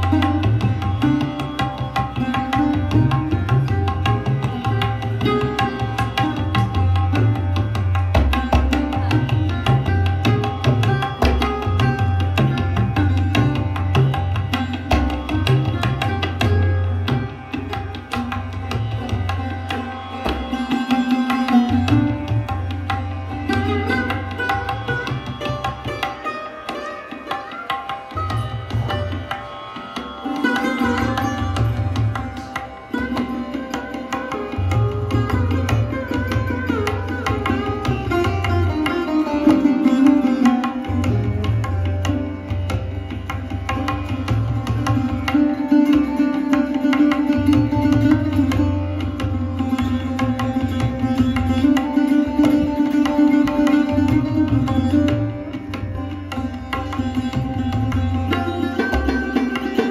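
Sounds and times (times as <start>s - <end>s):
plucked sarod melody: 0.0s - 59.9s.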